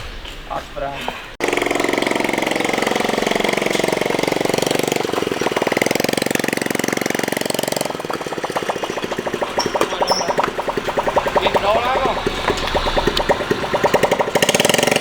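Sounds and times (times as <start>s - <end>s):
small motorcycle engine running: 1.4s - 15.0s.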